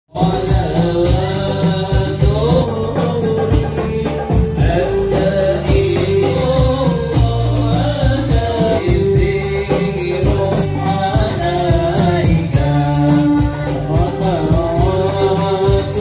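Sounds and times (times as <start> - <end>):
person singing over music with beat: 0.1 - 16.0.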